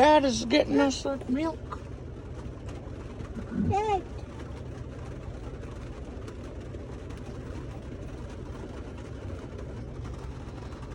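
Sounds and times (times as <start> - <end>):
truck cab low rumble: 0.0 - 10.9.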